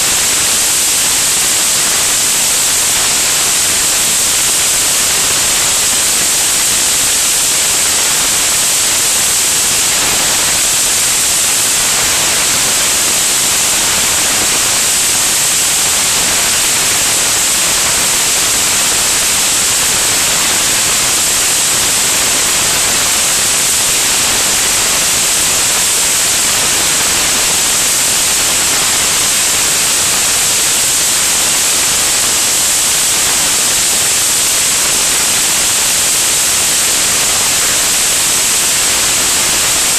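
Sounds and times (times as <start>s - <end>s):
rushing airflow hiss: 0.0s - 39.9s.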